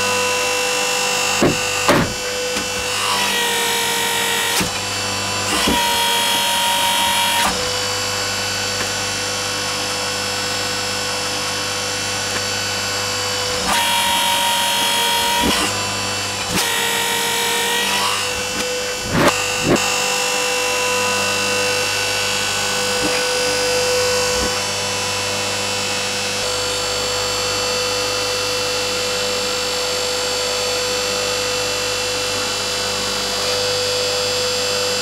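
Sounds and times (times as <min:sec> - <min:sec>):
hydraulic pump motor whine: 0:00.0 - 0:35.0.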